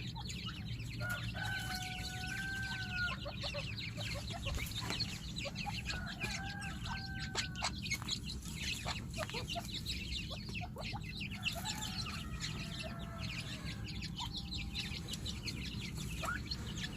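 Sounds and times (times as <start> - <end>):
birds clucking: 0.0 - 16.9
chicks cheeping: 0.0 - 16.9
steady low hum: 0.0 - 16.9.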